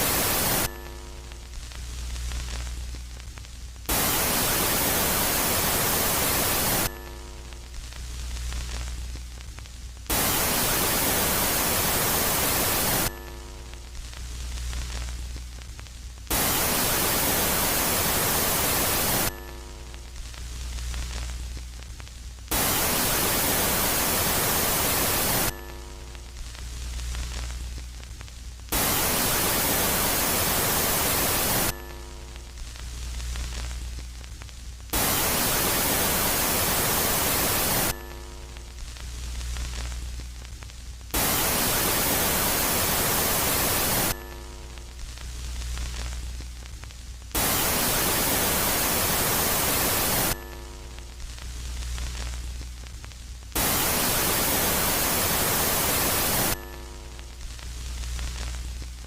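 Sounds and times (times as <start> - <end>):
low hum with faint tones: 0.0 - 59.0
static-like hiss: 0.0 - 59.0.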